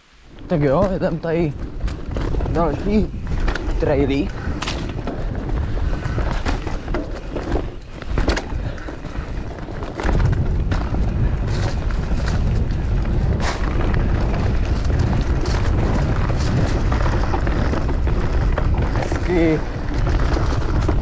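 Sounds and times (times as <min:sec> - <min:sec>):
bike tyre noise: 0:00.0 - 0:21.0
wind rumbling on microphone: 0:00.0 - 0:21.0
bike clattering over bumps: 0:00.4 - 0:21.0.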